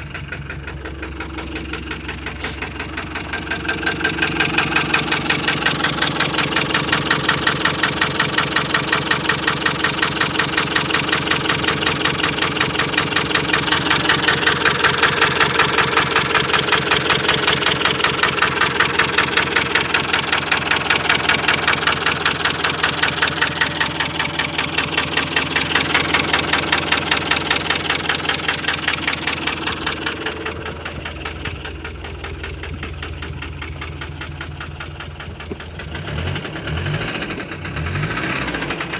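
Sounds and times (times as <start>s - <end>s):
diesel engine idling rough: 0.0s - 38.9s.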